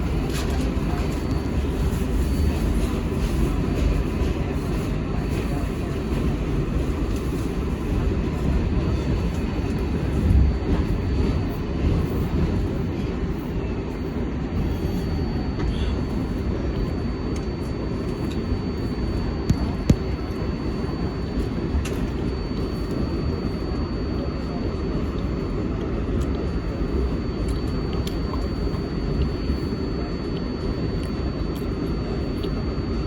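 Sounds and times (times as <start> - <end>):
faint high whine: 0.0 - 33.0
subway wheels rumbling on rails: 0.0 - 33.0.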